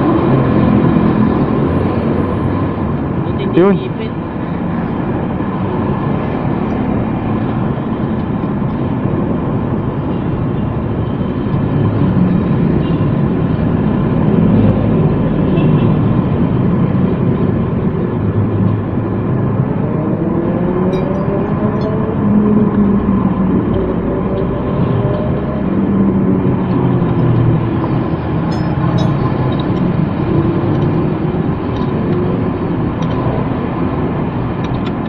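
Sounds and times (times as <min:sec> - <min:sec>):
road traffic: 0:00.0 - 0:35.0.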